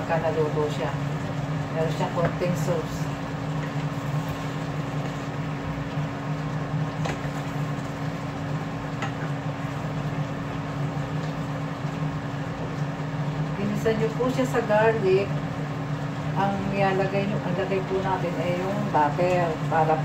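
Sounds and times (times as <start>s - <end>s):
steady low hum: 0.0s - 20.0s
shrimp simmering in a pan: 0.4s - 20.0s.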